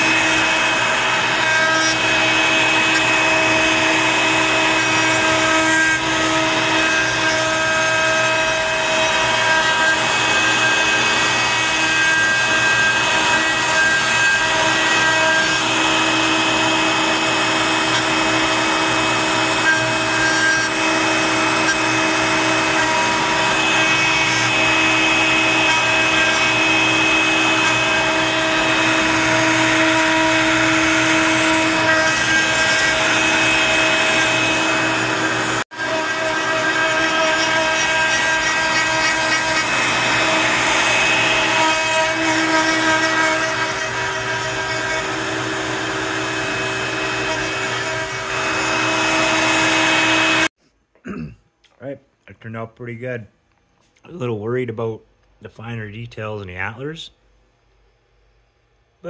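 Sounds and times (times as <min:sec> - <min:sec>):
router spindle whine: 0:00.0 - 0:50.5.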